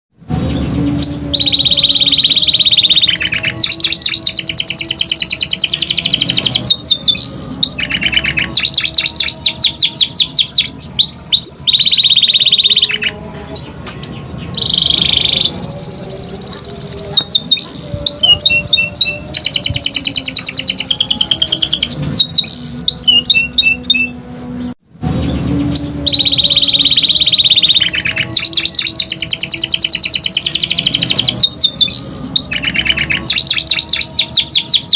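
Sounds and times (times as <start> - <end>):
canary singing: 0.3 - 34.9.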